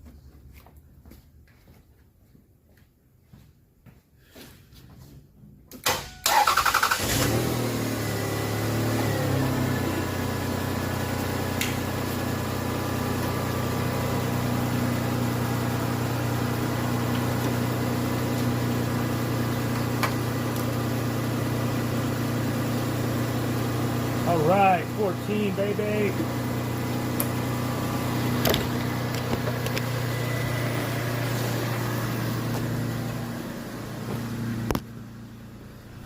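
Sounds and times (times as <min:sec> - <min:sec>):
car engine starting and idling: 0:05.7 - 0:36.0.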